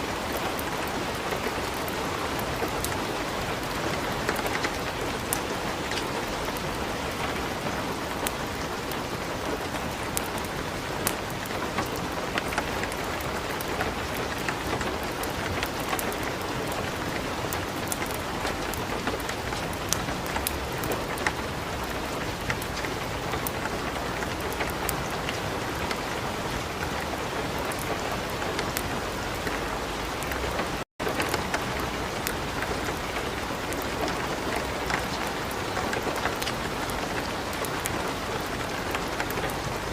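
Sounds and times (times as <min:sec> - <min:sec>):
light rain: 0:00.0 - 0:39.9
wood fire crackling: 0:00.1 - 0:39.9.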